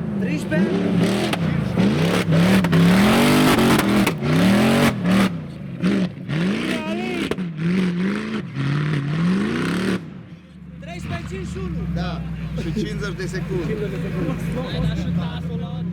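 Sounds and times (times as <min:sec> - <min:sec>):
off-road engine revving: 0:00.0 - 0:15.9.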